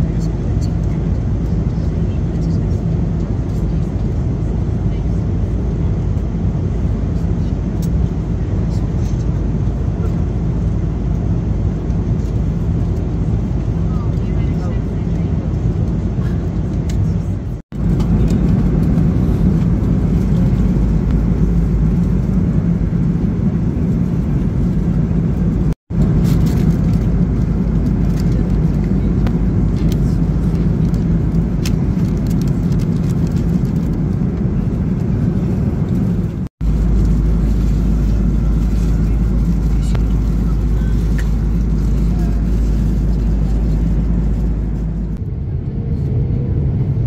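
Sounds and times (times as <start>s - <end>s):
airliner cabin engine rush: 0.0s - 47.0s.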